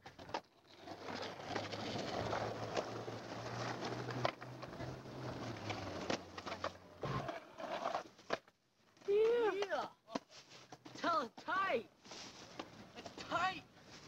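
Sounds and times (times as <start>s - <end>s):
skateboard clacking on ground: 0.0s - 11.5s
skateboard wheels rolling on asphalt: 0.0s - 14.0s.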